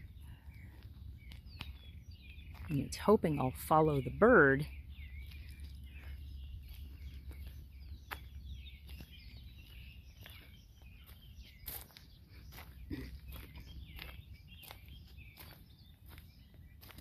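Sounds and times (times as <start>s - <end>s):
bird high chirping calls: 0.0s - 17.0s.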